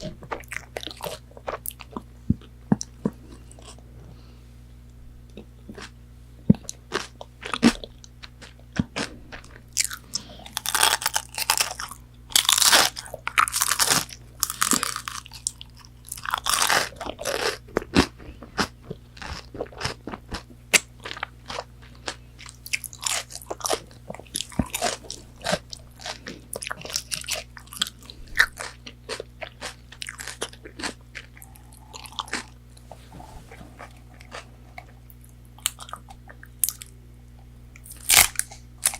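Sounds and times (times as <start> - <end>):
crunchy bites and chewing: 0.0 - 3.8, 5.3 - 32.9, 33.5 - 37.0, 37.8 - 38.9.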